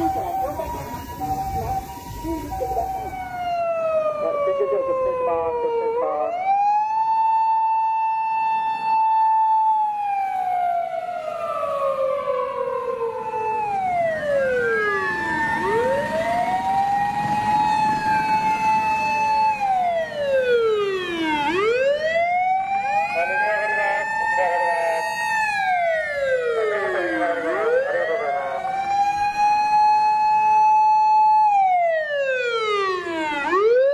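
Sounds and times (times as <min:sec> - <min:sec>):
fire engine sirens wailing: 0:00.0 - 0:33.9.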